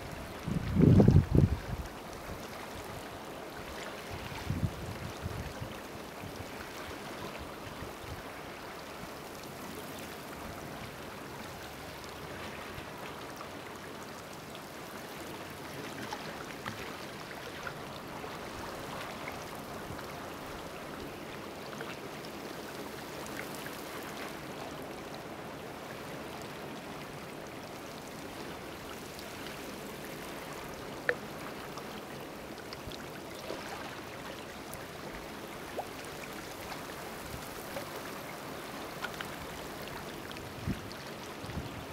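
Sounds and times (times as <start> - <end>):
water trickling in rock pool: 0.0 - 41.9.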